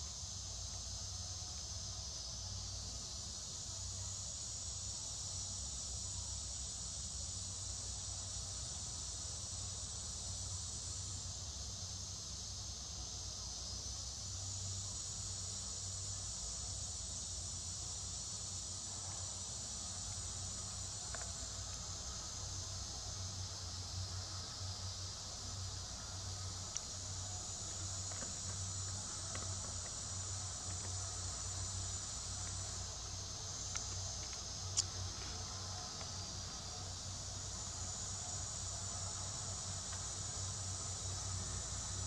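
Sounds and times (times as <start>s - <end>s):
insects droning high-pitched: 0.0s - 42.0s.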